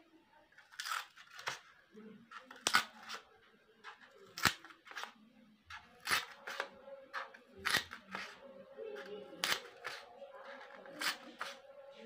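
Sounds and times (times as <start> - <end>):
scissors snipping foam plate: 0.6 - 1.7, 2.3 - 11.6.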